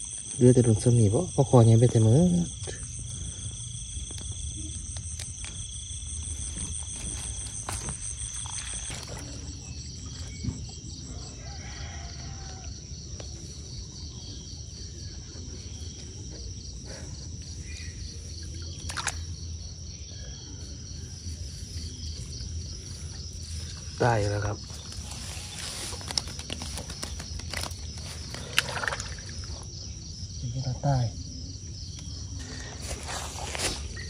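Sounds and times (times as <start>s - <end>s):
insects buzzing and chirping: 0.0s - 34.0s.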